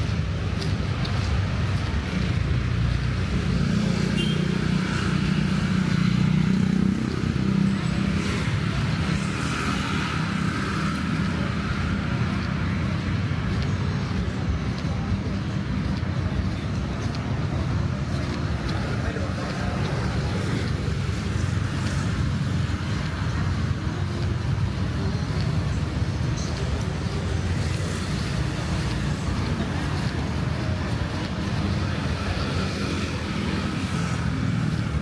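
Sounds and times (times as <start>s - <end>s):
car engines passing: 0.0s - 35.0s
motorbike engines passing: 0.0s - 35.0s.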